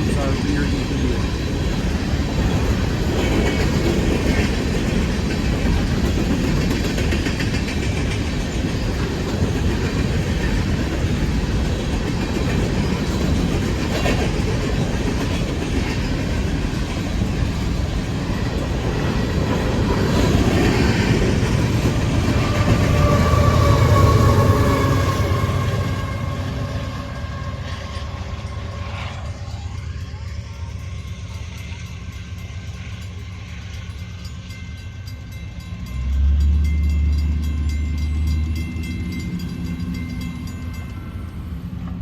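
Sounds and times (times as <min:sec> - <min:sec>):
locomotive engine drone: 0:00.0 - 0:42.0
train wheels clattering on rails: 0:00.0 - 0:42.0.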